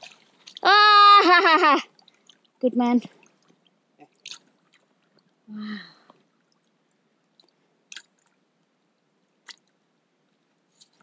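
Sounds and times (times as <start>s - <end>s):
small water splashes: 0.0s - 5.4s, 6.2s - 8.4s, 9.4s - 11.0s.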